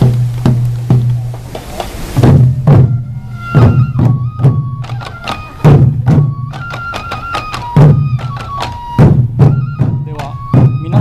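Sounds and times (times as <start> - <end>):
bamboo flute melody: 0.0 - 11.0
taiko drums: 0.0 - 11.0.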